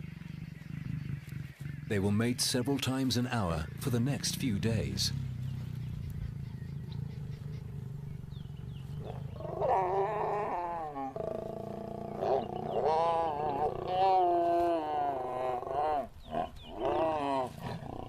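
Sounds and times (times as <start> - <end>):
lion snarls: 0.0 - 1.9, 3.5 - 18.0
lions growling: 0.0 - 18.0.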